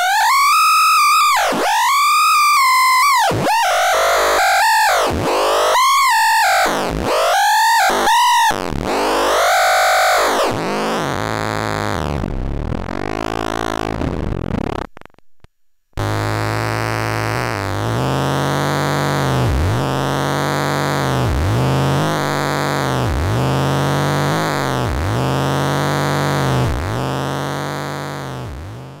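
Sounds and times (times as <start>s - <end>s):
buzzy synthesizer drone: 3.6s - 14.8s, 16.0s - 29.0s.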